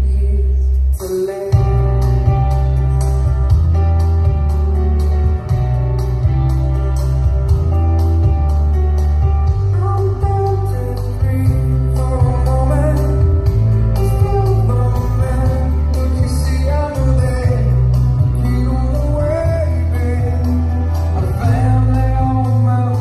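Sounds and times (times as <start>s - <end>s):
song with singing and guitar: 0.0s - 23.0s.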